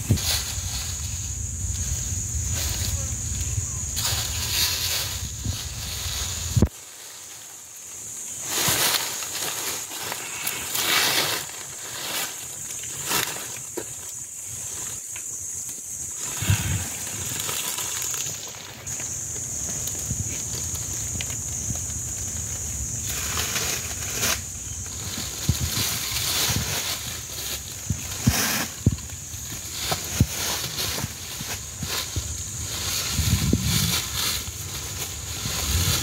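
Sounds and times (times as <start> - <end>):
carcass dragged over leaves: 0.0 - 15.1, 16.0 - 36.0
dry leaves rustling and crackling: 0.0 - 36.0
steady high hiss: 0.0 - 36.0.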